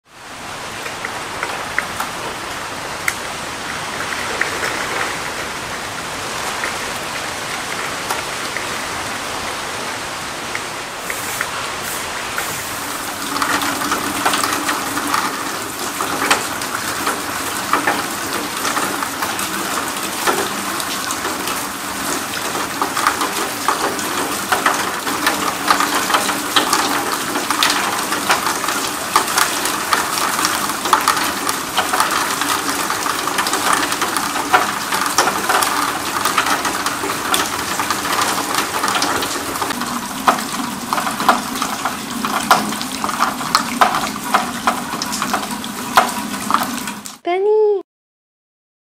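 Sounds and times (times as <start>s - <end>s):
rain falling on wet ground: 0.0s - 47.2s.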